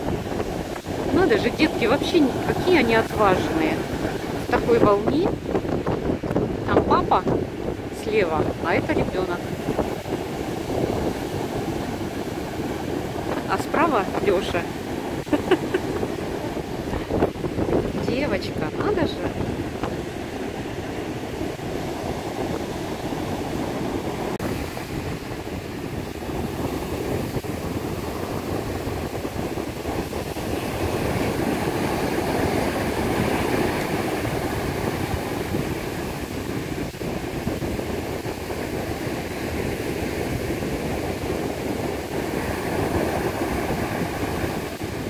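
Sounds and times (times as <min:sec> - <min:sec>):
surf breaking on sand: 0:00.0 - 0:45.0.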